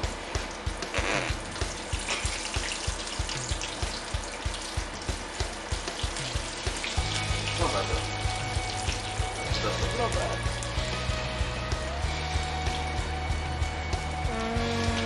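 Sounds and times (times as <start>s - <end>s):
food deep-frying in oil: 0.0s - 13.7s
background music with low beat: 0.0s - 15.0s.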